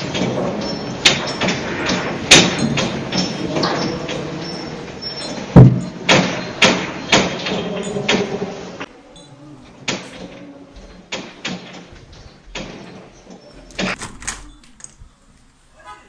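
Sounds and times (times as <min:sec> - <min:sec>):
house rattling in earthquake: 0:00.0 - 0:15.1.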